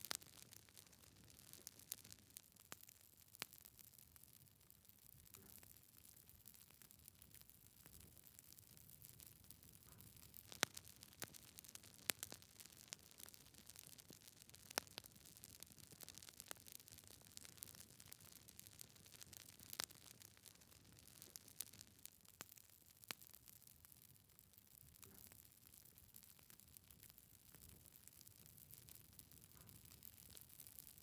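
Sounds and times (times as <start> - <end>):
faint fire hiss: 0.0 - 31.0
logs crackling and popping: 0.0 - 31.0.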